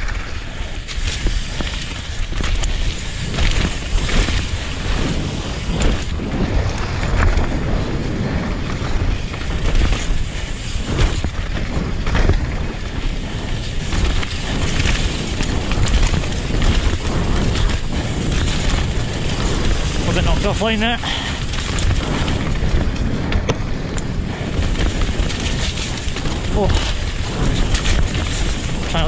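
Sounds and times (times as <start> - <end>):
bike knocks and rattles: 0.0 - 29.0
tyres rumbling over stones: 0.0 - 29.0
wind buffeting microphone: 0.0 - 29.0.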